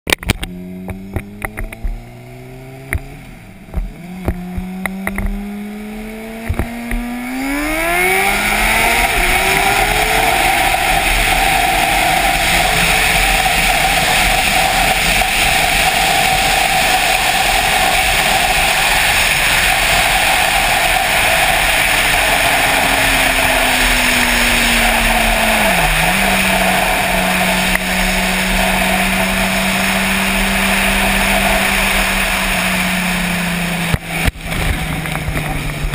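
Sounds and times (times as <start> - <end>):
motorcycle engine accelerating: 0.1 - 35.9
wind rushing across camera: 6.1 - 35.9.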